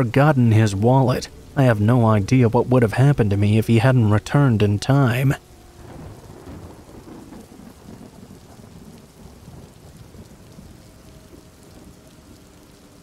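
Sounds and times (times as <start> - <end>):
steady rain falling: 0.0 - 13.0
thunder rumble: 0.0 - 13.0.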